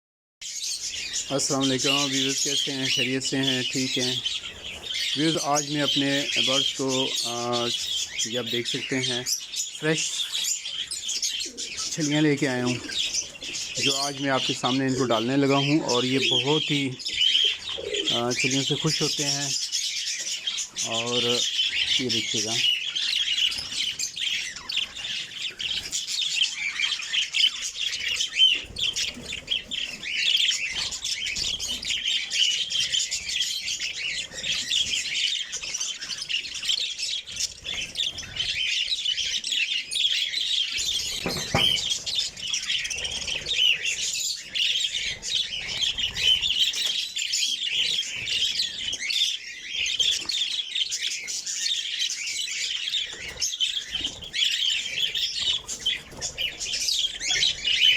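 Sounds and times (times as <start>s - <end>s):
caged birds chirping and squawking: 0.4s - 57.9s.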